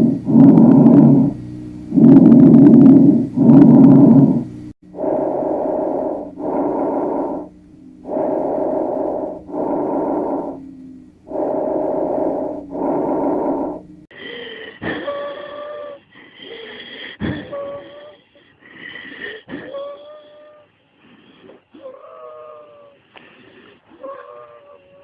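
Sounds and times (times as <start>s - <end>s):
noisy lung breaths: 0.0s - 24.5s
wheezing whistling breath: 4.9s - 25.0s.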